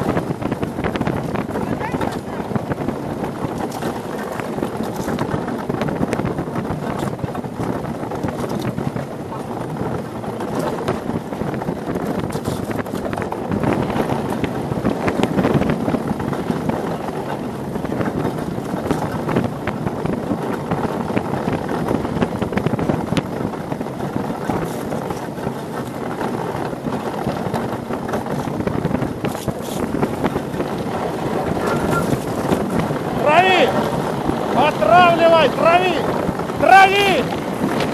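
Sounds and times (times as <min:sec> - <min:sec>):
runners rumbling on ice: 0:00.0 - 0:37.9
wind on microphone: 0:00.0 - 0:37.9.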